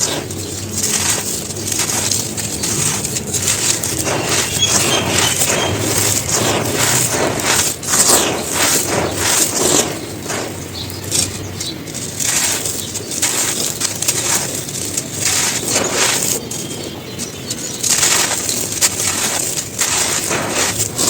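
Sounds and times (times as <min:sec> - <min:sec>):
dry cones crunching: 0:00.0 - 0:21.0.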